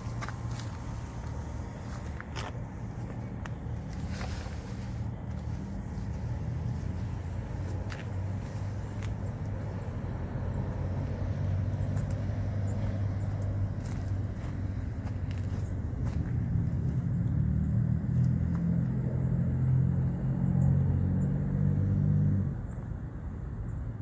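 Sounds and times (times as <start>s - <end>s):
traffic rumble: 0.0s - 24.0s
vehicle approaching: 0.0s - 24.0s.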